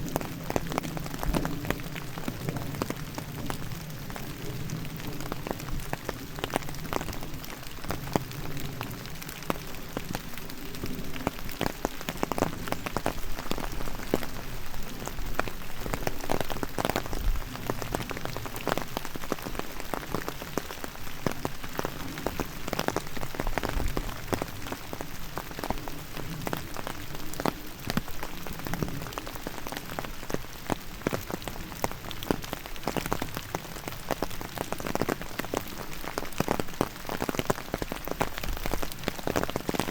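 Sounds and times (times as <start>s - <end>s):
raindrops striking close by: 0.0s - 39.9s
steady rain falling: 0.0s - 39.9s.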